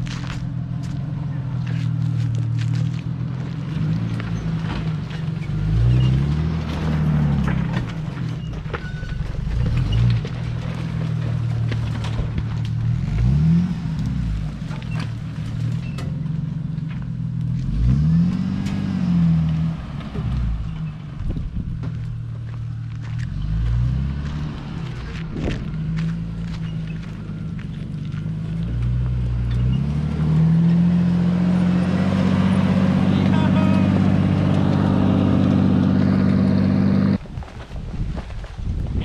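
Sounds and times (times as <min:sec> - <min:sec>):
off-road vehicle engine revving: 0:00.0 - 0:37.2.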